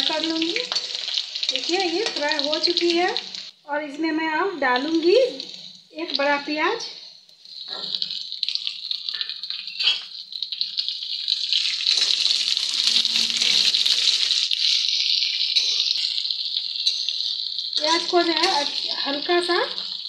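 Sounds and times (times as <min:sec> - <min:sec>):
onion sizzling in hot oil: 0:00.0 - 0:20.0.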